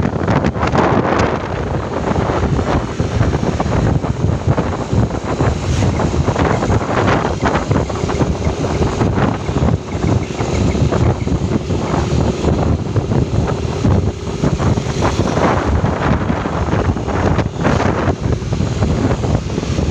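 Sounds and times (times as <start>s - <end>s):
road noise: 0.0s - 19.9s
wind buffeting microphone: 0.0s - 19.9s.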